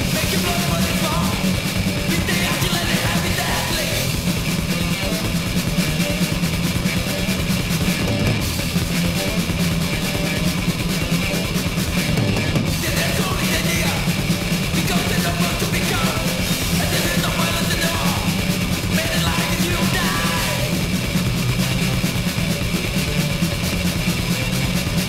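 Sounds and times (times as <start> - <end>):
metal band playing: 0.0 - 25.0.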